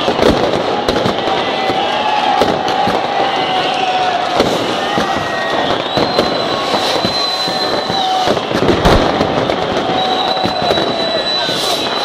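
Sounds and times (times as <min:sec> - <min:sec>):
firecrackers crackling and banging: 0:00.0 - 0:12.0
firework whistles: 0:00.0 - 0:12.0.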